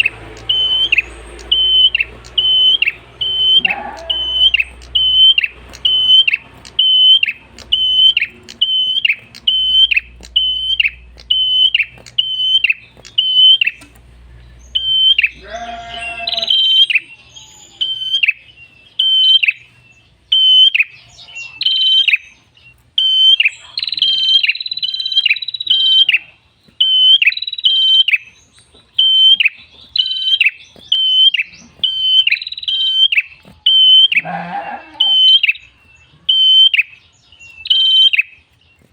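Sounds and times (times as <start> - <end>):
harsh lower bird call: 0.0 - 38.9
songbird singing sharp high notes: 0.0 - 38.9.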